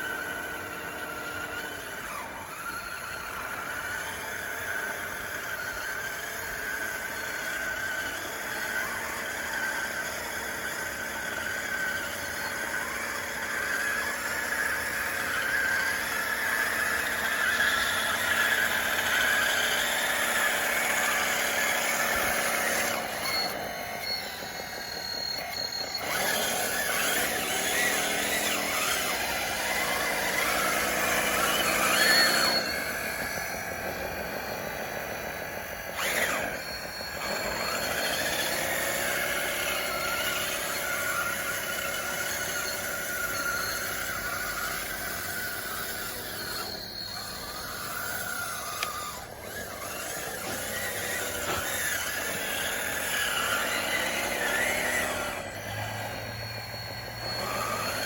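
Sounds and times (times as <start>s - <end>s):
electric motors and tracks whining: 0.0s - 58.0s.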